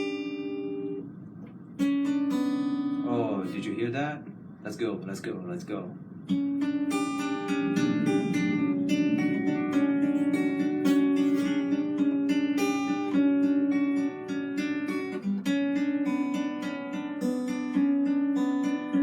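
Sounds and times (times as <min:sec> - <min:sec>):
guitar plucked notes: 0:00.0 - 0:03.7, 0:06.1 - 0:19.0.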